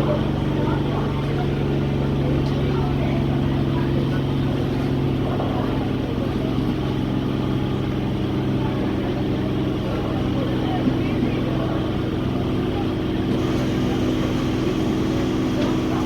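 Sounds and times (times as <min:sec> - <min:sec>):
train mechanical hum and rumble: 0:00.0 - 0:16.0.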